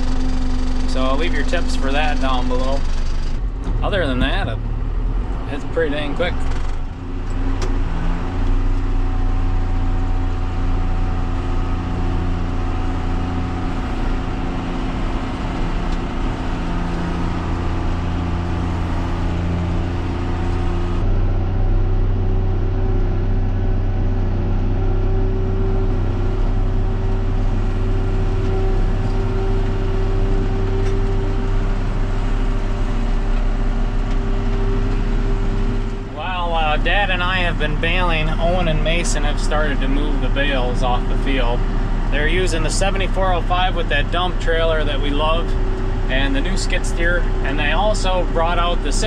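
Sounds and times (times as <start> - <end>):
engine drone: 0.0 - 49.0
tractor diesel engine running: 0.0 - 49.0.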